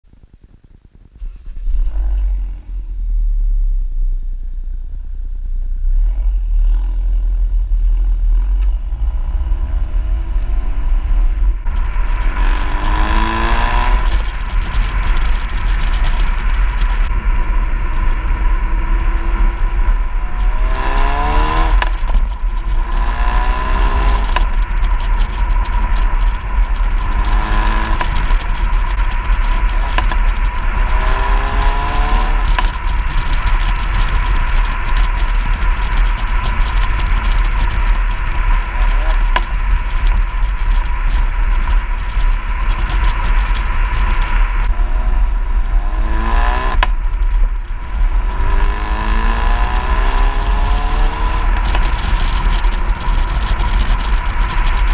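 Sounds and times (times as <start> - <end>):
road rumble: 0.0 - 54.9
wind noise: 0.0 - 54.9
car engine accelerating: 1.1 - 54.9.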